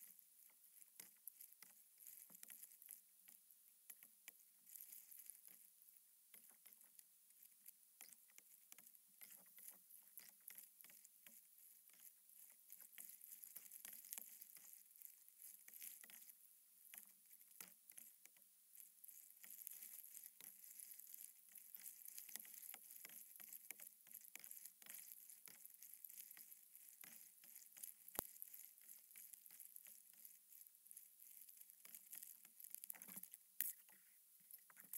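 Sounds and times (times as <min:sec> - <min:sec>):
crackling patter of paddled water: 0:00.0 - 0:05.7, 0:06.3 - 0:34.9.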